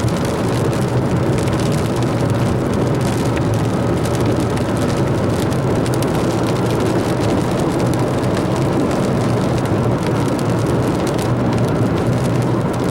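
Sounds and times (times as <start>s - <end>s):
car road and engine noise: 0.0s - 12.9s
rain ticking on car: 0.0s - 12.9s.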